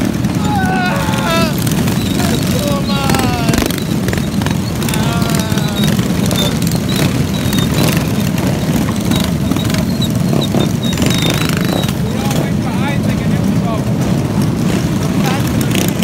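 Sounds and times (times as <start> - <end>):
minibike engines rumbling: 0.0 - 16.0.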